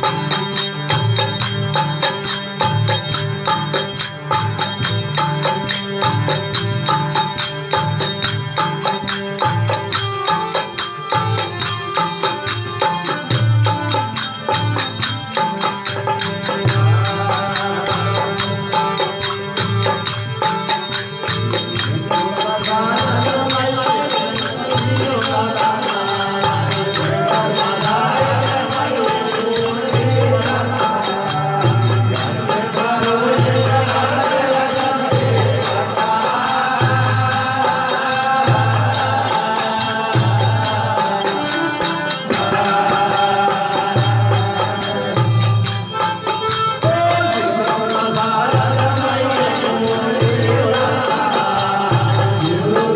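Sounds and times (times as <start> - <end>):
jingling percussion: 0.0 - 52.9.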